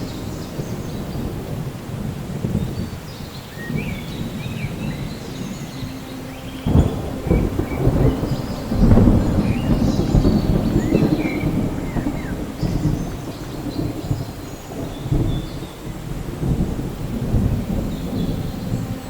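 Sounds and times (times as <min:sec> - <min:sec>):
low rolling thunder: 0:00.0 - 0:19.0
rain: 0:00.0 - 0:19.0.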